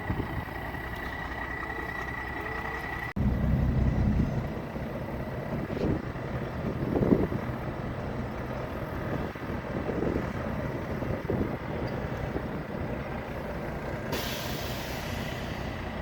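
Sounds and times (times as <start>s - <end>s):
heavy vehicle engine rumble: 0.0s - 16.0s.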